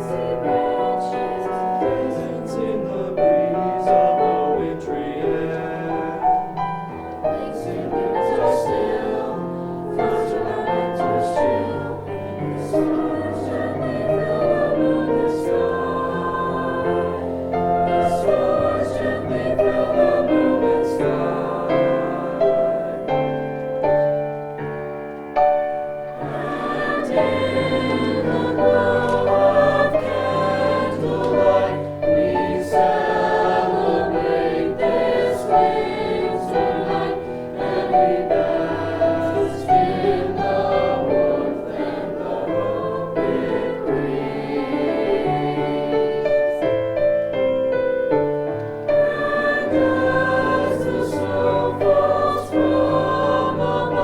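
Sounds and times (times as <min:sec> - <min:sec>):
choir singing: 0:00.0 - 0:24.4, 0:25.4 - 0:47.8, 0:48.6 - 0:54.0.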